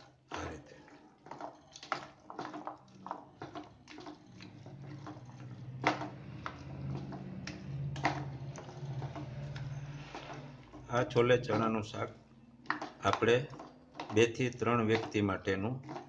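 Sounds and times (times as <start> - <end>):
spoon stirring curry in pot: 0.0 - 16.0.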